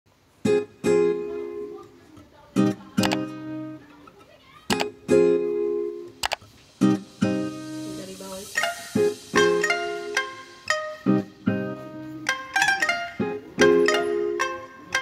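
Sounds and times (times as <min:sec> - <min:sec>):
strummed guitar chords: 0:00.4 - 0:04.0, 0:04.7 - 0:15.0.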